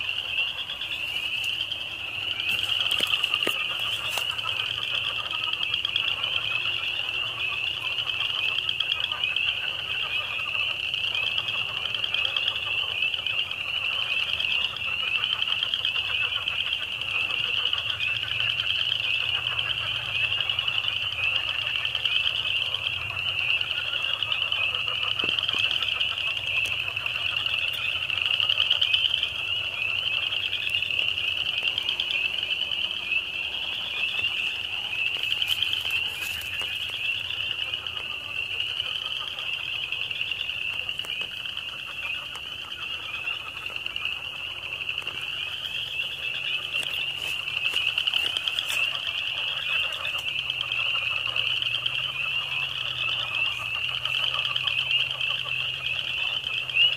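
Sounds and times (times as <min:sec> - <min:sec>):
chorus of frogs calling: 0:00.0 - 0:56.9.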